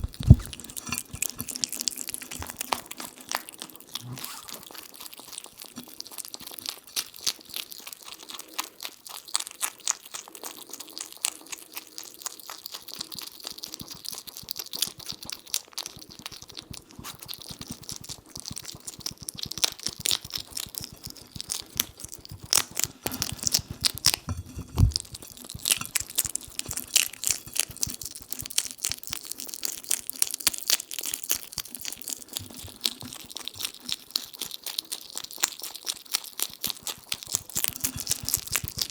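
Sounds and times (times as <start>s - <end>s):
hedgehog chewing: 0.0s - 38.9s.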